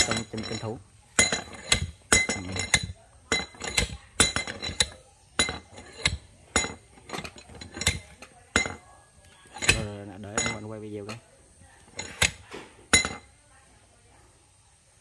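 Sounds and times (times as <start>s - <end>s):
metal clinking against metal: 0.0s - 13.4s.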